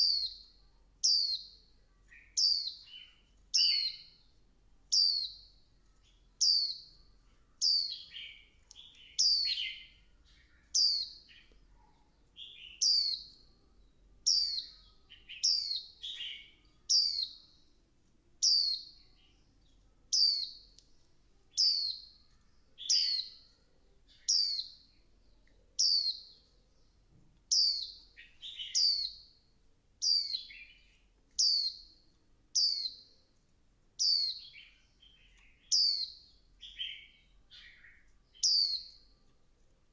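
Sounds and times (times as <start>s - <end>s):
bird high chirps: 0.0s - 17.7s, 18.4s - 20.8s, 21.5s - 29.4s, 30.0s - 32.0s, 32.6s - 33.2s, 34.0s - 39.1s.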